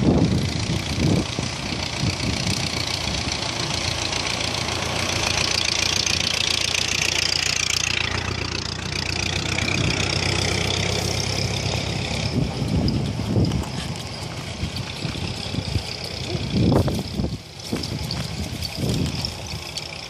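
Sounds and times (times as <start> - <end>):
low engine-like drone: 0.0 - 20.0.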